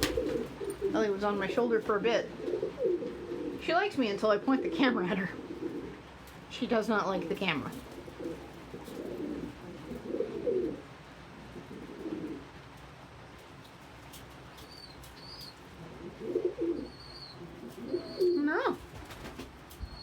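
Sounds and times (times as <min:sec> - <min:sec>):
pigeons cooing: 0:00.0 - 0:06.4, 0:07.0 - 0:12.8, 0:14.3 - 0:20.0.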